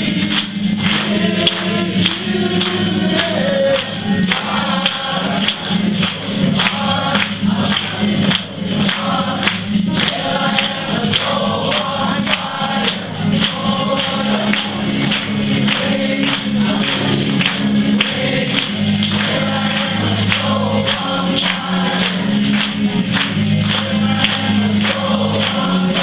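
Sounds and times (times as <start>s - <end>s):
group singing gospel song: 0.0s - 26.0s.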